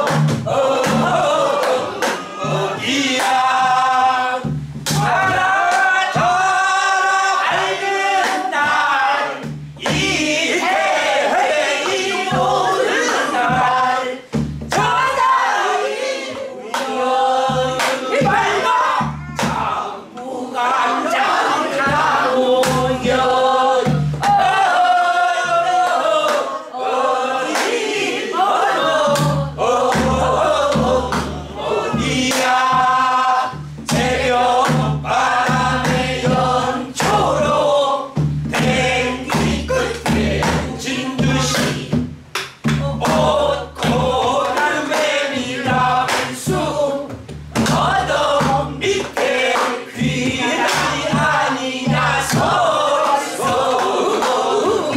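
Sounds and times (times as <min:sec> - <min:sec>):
group singing folk song: 0:00.0 - 0:54.9.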